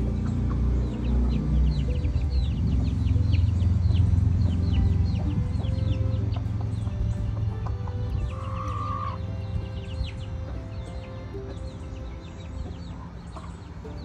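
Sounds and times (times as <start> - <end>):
chickens peeping: 0.0 - 14.0
steady low rumble: 0.0 - 14.0.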